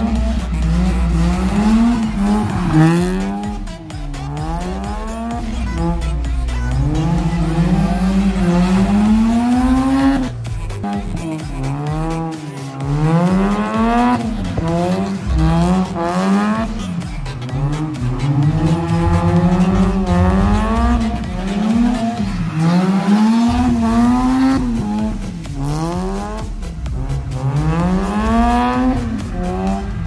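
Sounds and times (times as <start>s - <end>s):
rotary engine revving: 0.0s - 30.0s
tires squealing: 0.0s - 30.0s.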